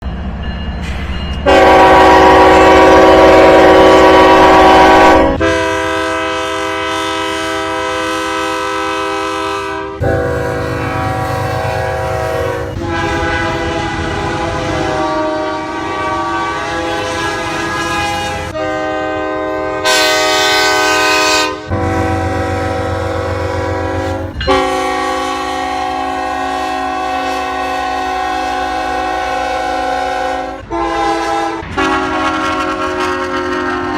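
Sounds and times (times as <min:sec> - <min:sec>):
train air horns: 0:01.4 - 0:33.9.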